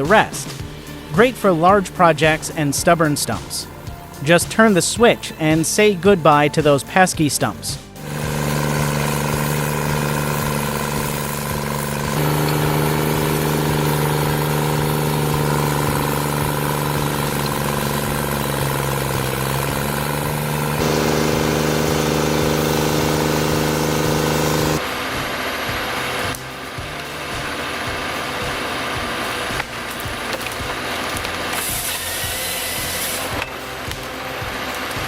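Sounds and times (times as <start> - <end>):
stump grinder engine running: 0.0 - 35.0.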